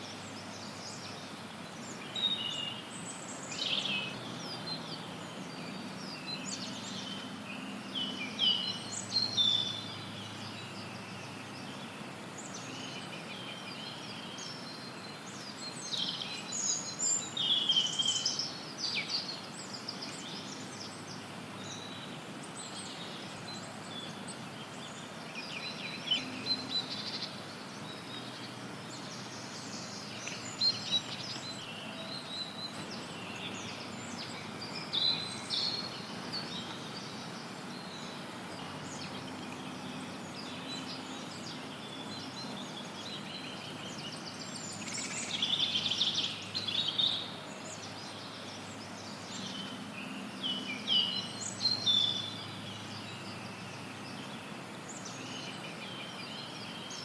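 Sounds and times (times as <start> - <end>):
songbirds chirping and trilling: 0.0 - 57.0
steady background hiss: 0.0 - 57.0.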